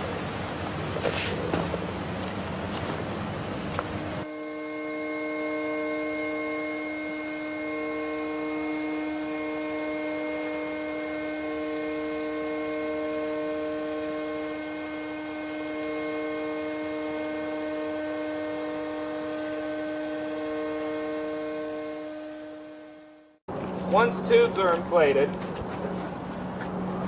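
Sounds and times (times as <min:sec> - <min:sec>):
electric air pump running: 0:00.0 - 0:27.0.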